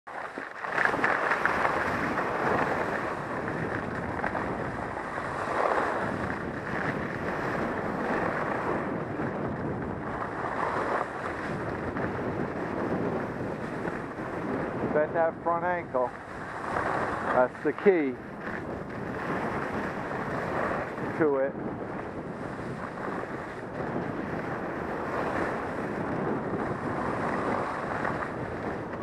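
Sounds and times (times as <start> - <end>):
skis scraping over snow: 0.1 - 29.0
wind rushing over microphone: 0.1 - 29.0.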